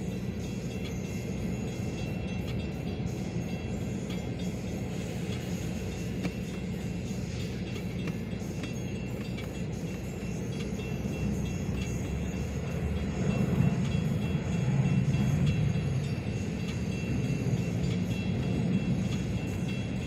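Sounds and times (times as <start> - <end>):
crossing signal bell ringing: 0.0 - 20.0
rumble of wheels on rail: 0.0 - 20.0.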